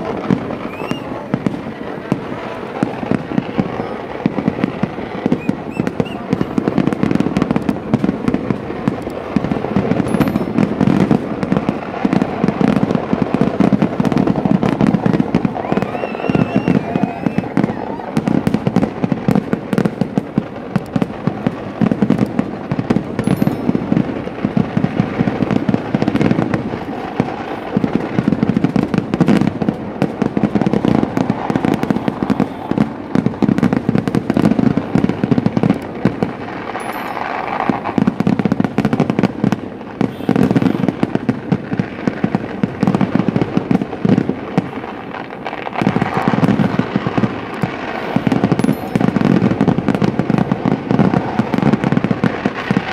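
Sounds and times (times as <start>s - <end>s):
fireworks explosions crackling: 0.0s - 52.9s.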